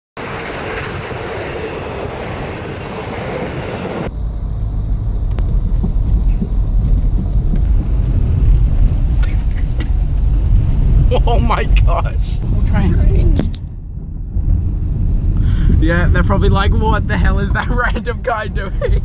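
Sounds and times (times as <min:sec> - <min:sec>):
train rushing past on rails: 0:00.2 - 0:17.4
low rumble: 0:00.2 - 0:19.0.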